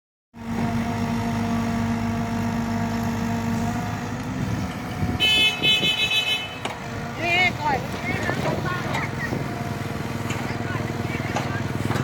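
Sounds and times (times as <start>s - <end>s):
excavator engine running: 0.4s - 12.0s.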